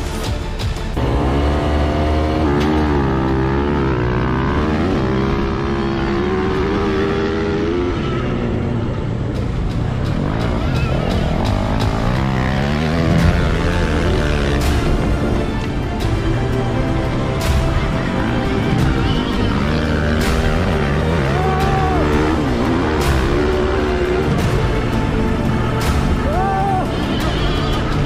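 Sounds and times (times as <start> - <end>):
motorcycle engine revving: 0.9 - 28.0.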